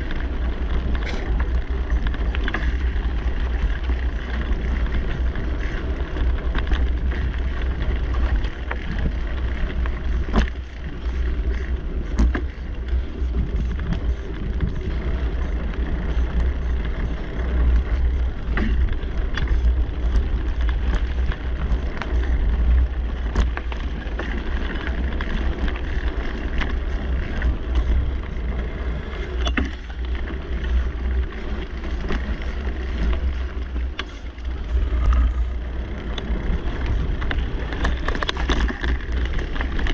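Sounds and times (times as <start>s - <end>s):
bike clicks and rattles: 0.0s - 39.9s
bike tyre noise on dirt: 0.0s - 39.9s
wind rumble on microphone: 0.0s - 39.9s.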